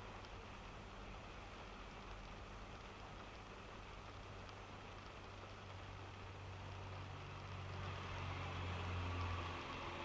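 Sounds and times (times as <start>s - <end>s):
faint raindrop ticks: 0.0s - 10.0s
low road rumble: 0.0s - 10.0s
rain hissing on car: 0.0s - 10.0s.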